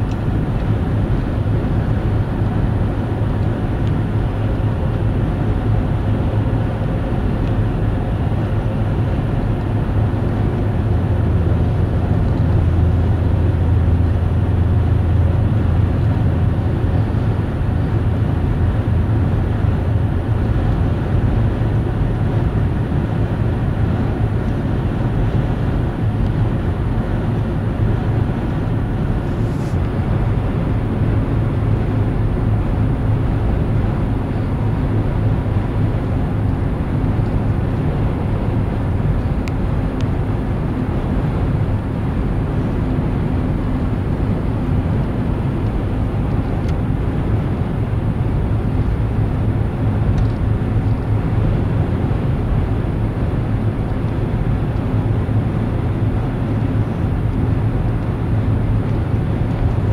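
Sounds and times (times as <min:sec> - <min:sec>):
low vehicle rumble: 0:00.0 - 0:59.9.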